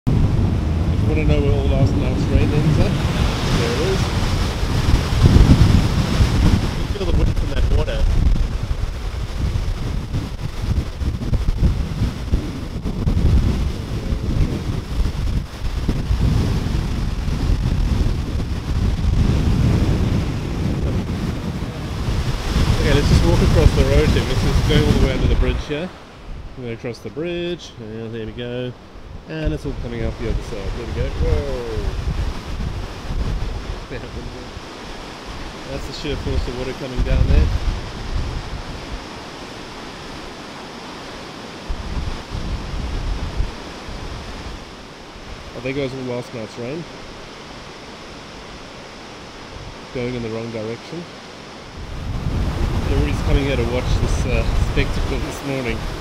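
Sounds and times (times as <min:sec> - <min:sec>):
wind buffeting microphone: 0:00.1 - 0:45.9, 0:46.7 - 0:56.0
water rushing down spillway: 0:00.8 - 0:26.1, 0:29.9 - 0:56.0.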